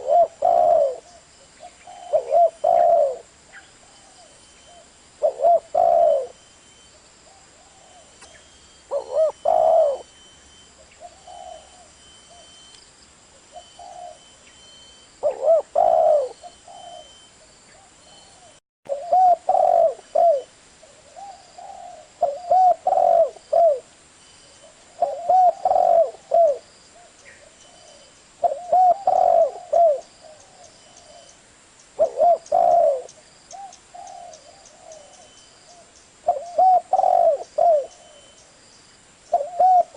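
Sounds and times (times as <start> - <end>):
dove cooing: 0.0 - 6.5, 7.3 - 10.2, 10.8 - 12.6, 13.4 - 14.4, 15.2 - 23.9, 24.5 - 31.4, 32.0 - 38.4, 39.3 - 39.9.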